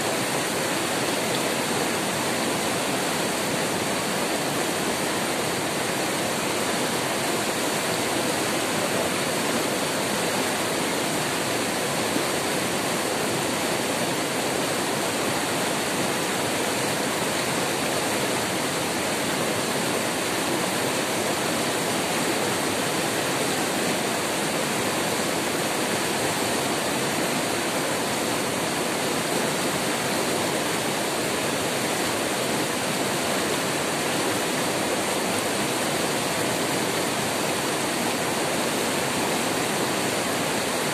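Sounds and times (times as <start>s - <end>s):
river rapids rushing over boulders: 0.0s - 40.9s.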